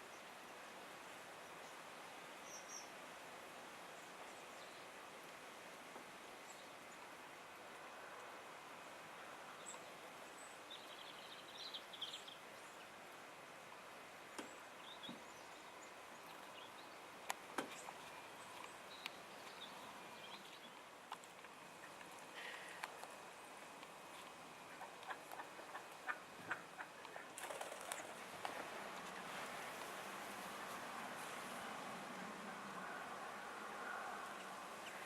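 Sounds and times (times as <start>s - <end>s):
faint outdoor hiss: 0.0s - 35.0s.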